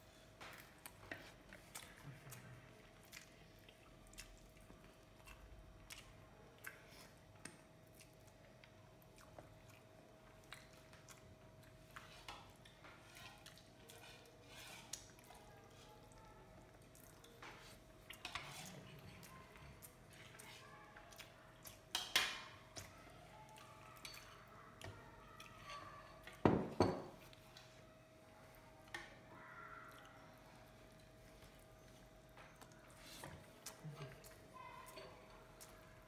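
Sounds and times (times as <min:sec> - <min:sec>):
soft chewing: 0:00.0 - 0:26.4, 0:27.1 - 0:36.0.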